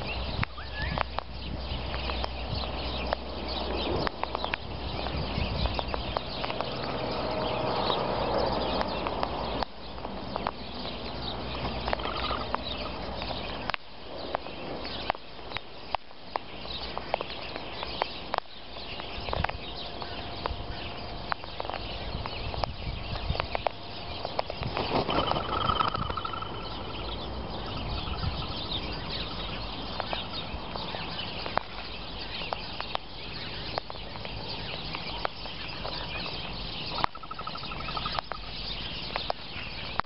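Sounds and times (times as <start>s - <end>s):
faint bird chirps: 0.0s - 7.4s, 10.4s - 13.7s, 16.3s - 40.0s
wind rumble on microphone: 0.0s - 40.0s
beaks pecking and cracking seed: 0.4s - 20.6s, 21.3s - 29.3s, 31.2s - 38.5s.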